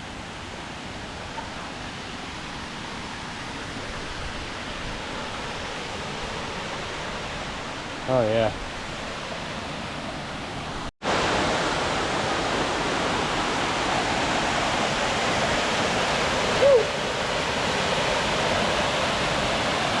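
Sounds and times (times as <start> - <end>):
waterfall rushing: 0.1 - 20.0.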